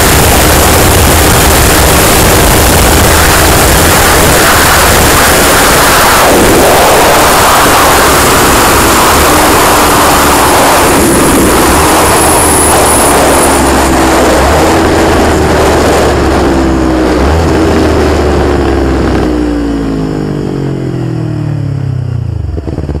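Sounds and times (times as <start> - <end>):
wind rush on microphone: 0.0 - 19.3
motorcycle engine: 0.0 - 23.0.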